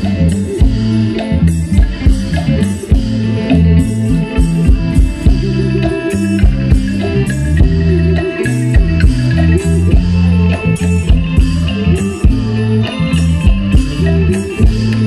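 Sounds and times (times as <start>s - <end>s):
bass line: 0.0s - 15.0s
drums keeping steady beat: 0.0s - 15.0s
plucked strings: 0.0s - 15.0s.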